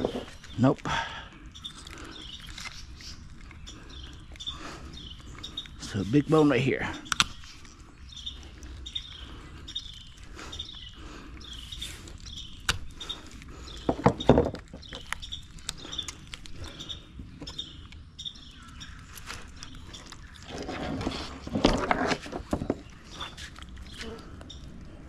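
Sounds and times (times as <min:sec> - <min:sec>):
scraping and crunching: 0:00.0 - 0:00.8, 0:01.6 - 0:25.0
birds chirping: 0:00.0 - 0:25.0.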